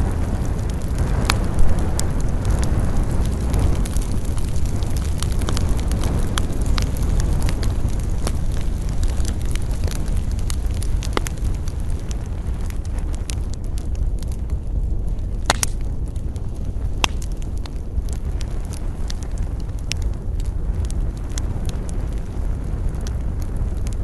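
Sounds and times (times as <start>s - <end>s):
campfire crackling and popping: 0.0s - 24.0s
low rush of fire: 0.0s - 24.0s.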